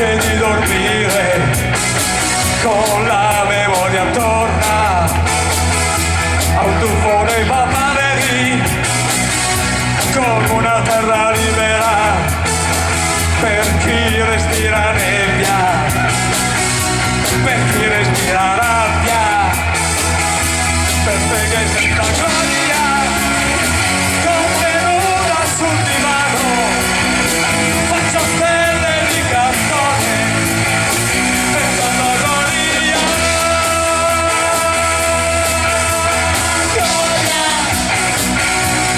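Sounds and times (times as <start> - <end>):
rock music with singing: 0.0 - 38.9.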